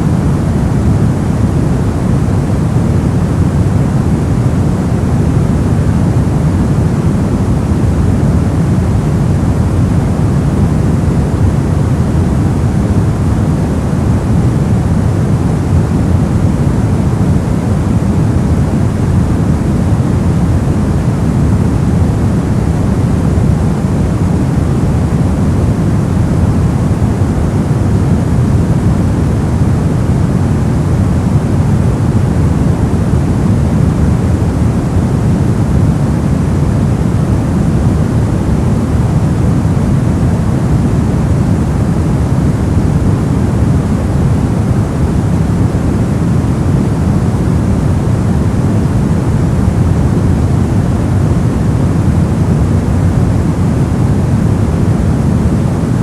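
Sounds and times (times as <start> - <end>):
deep white noise: 0.0 - 56.0.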